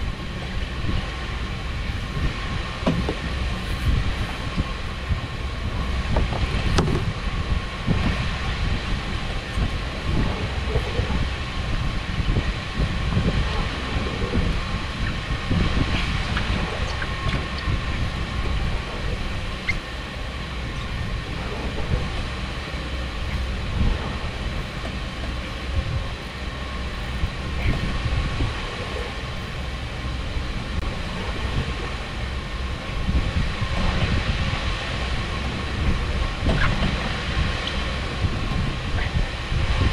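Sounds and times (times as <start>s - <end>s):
low mechanical rumble: 0.0s - 39.9s
wind on microphone: 0.0s - 39.9s.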